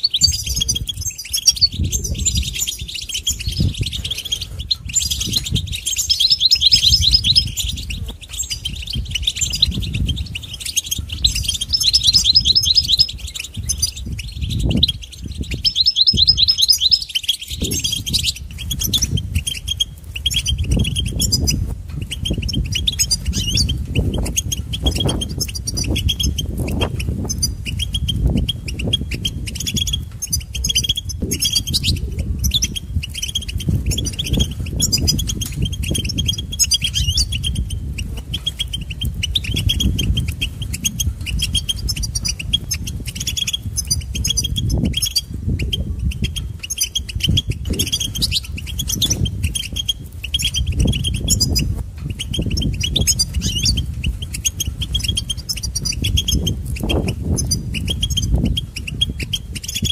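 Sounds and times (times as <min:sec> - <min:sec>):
finch twittering: 0:00.0 - 0:59.9.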